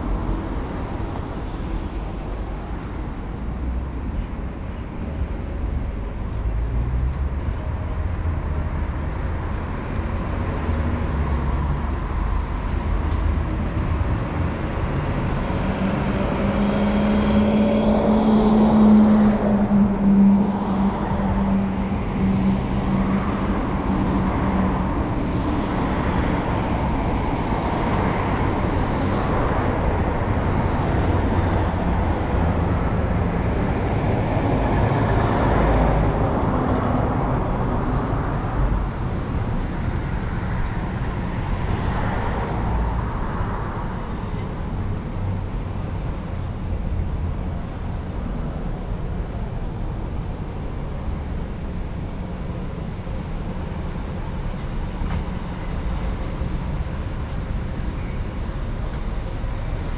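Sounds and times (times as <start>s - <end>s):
rumble of city traffic: 0.0s - 59.9s.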